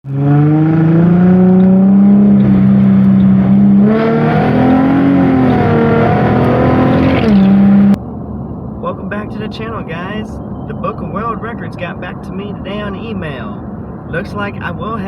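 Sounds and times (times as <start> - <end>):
vehicle engine running: 0.1 - 12.9.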